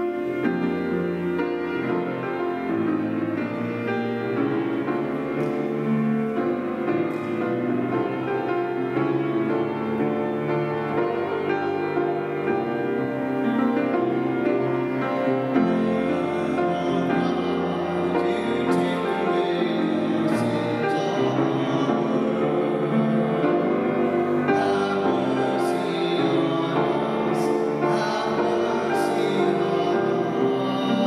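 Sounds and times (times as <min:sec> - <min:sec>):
instrumental keyboard music: 0:00.0 - 0:31.0.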